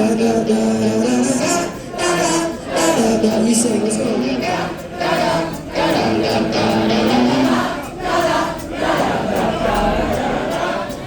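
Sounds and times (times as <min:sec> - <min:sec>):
guitar playing: 0:00.0 - 0:10.6
audience singing along: 0:00.0 - 0:11.0.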